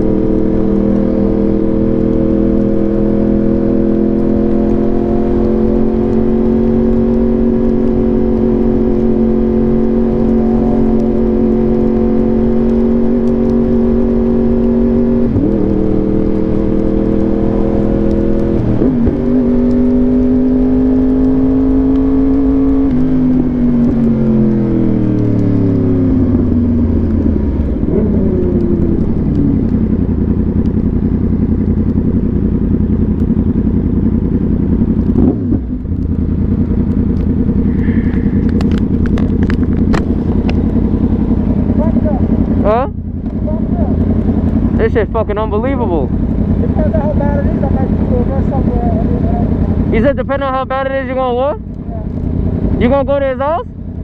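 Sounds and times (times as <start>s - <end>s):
motorcycle engine revving: 0.0s - 54.0s
motorcycle gear changes: 0.1s - 44.8s.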